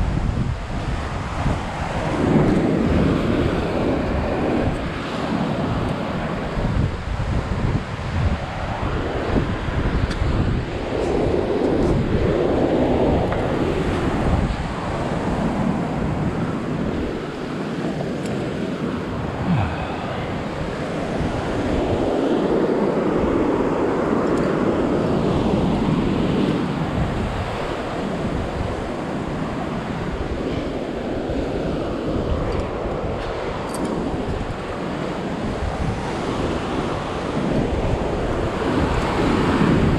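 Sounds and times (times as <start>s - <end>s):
surf breaking on rocky shore: 0.0s - 39.9s
wind buffeting microphone: 0.0s - 39.9s.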